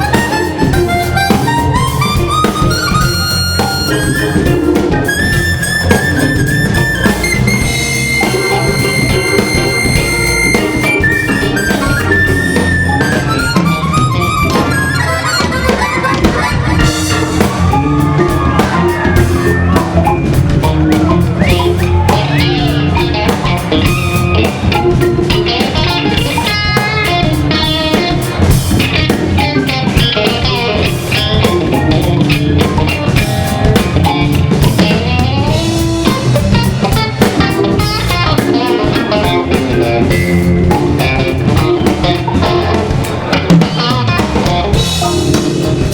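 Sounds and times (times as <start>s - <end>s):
organ fast runs: 0.0s - 45.9s
soul-jazz band playing: 0.0s - 45.9s.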